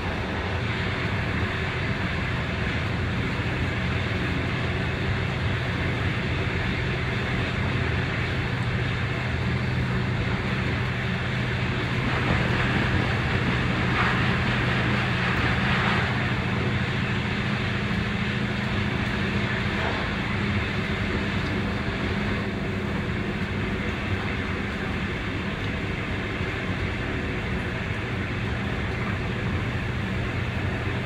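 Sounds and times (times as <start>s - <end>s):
constant low hum: 0.0s - 31.0s
train rolling on rails: 0.0s - 31.0s.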